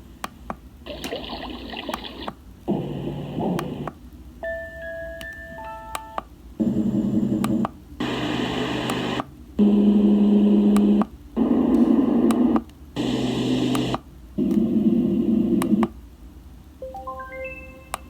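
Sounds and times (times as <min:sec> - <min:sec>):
white noise machine: 0:00.0 - 0:18.0.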